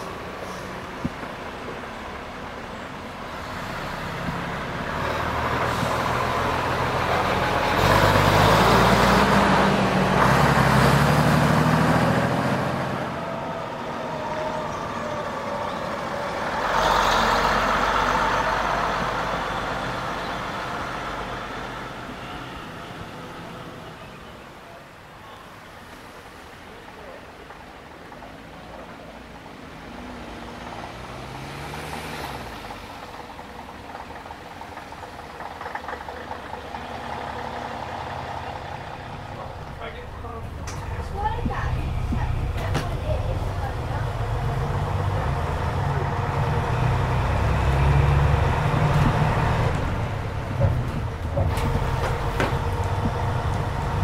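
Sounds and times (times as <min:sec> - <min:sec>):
bus engine passing by: 0:00.0 - 0:54.0.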